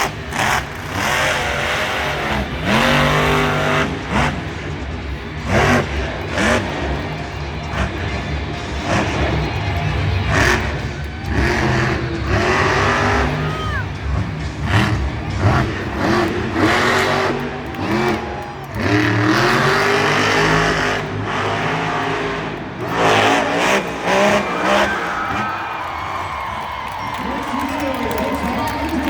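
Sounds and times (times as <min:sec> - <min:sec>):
monster truck engines revving: 0:00.0 - 0:29.0.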